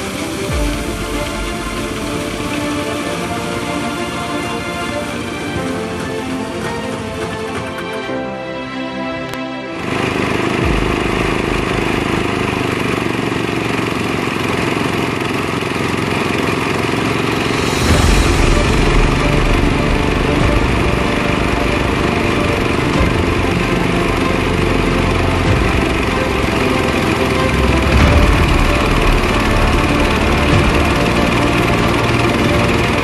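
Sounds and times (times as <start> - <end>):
threshing machine engine running: 0.0 - 8.1, 9.8 - 33.0.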